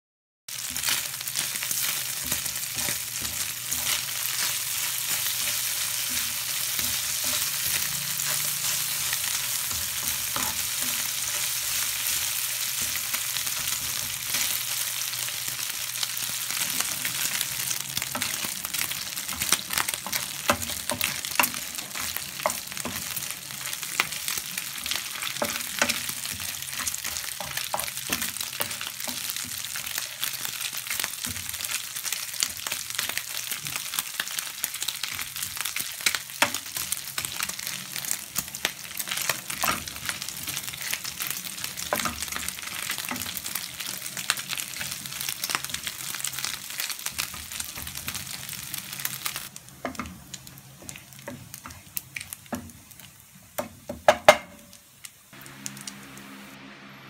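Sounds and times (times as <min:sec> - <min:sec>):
spatula stirring in pan: 0:00.5 - 0:54.0
meat sizzling in frying pan: 0:00.5 - 0:56.4.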